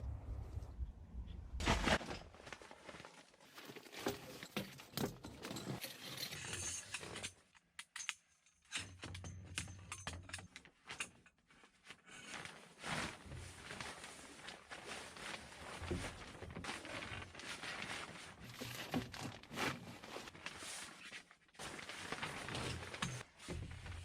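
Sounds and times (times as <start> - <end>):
rustling and clatter of handling: 1.6 - 8.1, 8.7 - 24.0.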